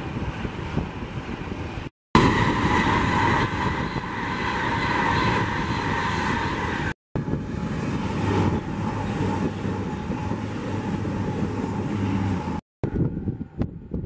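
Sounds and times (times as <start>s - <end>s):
train passing at speed: 1.7s - 13.5s.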